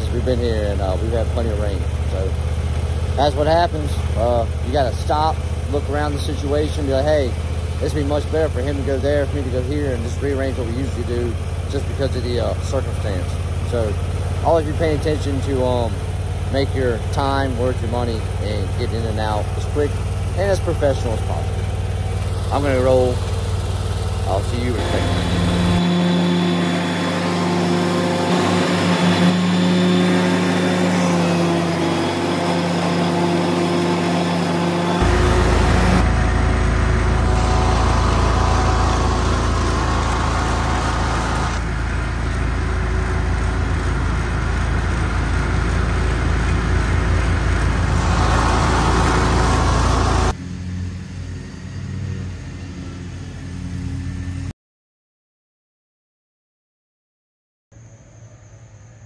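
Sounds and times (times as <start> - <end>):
riding mower engine running: 0.0 - 54.5.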